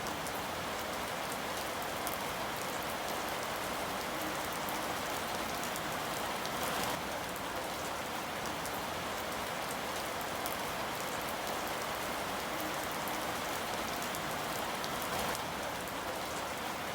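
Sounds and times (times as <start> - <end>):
rain falling on a surface: 0.0 - 16.9.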